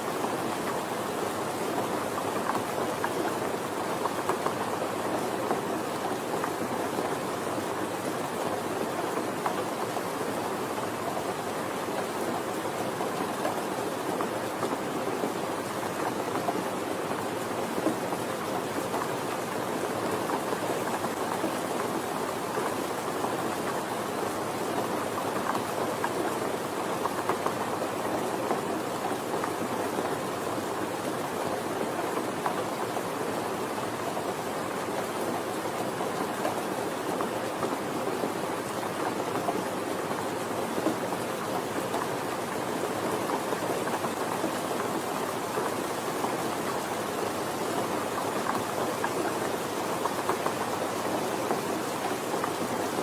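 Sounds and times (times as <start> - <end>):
steady gentle rainfall: 0.0 - 53.0.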